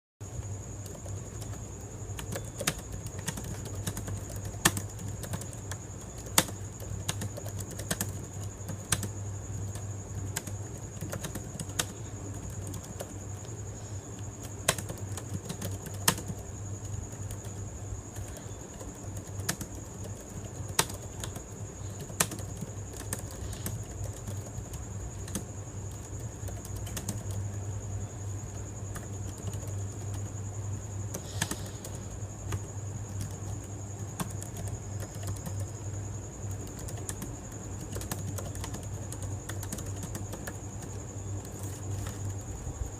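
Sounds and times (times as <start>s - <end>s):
steady high-pitched whine: 0.2s - 42.9s
typing on computer keyboard: 0.3s - 27.6s, 28.5s - 30.4s, 31.1s - 42.6s.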